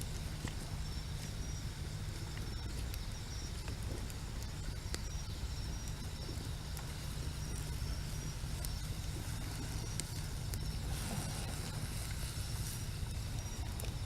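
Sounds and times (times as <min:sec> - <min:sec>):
night insects chirping: 0:00.0 - 0:14.0.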